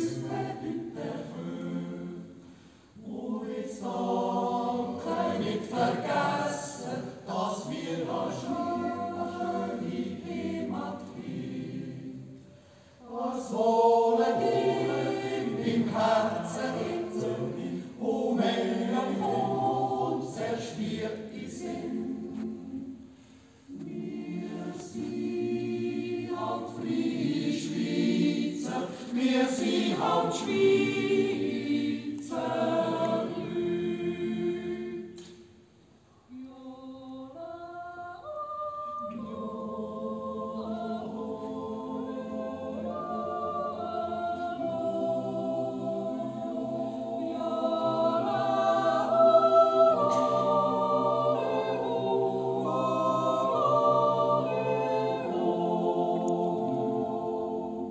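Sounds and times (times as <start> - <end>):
choir yodeling a cappella: 0.0 - 57.9.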